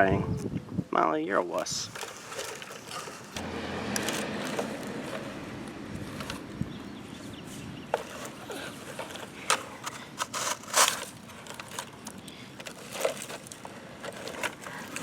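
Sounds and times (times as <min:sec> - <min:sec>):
toy digger scraping gravel: 0:01.6 - 0:15.0.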